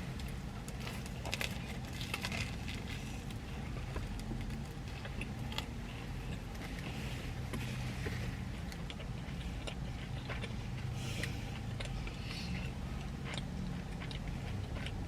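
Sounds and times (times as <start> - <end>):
crunching and chewing bread: 0.0 - 15.0
low background hum: 0.0 - 15.0.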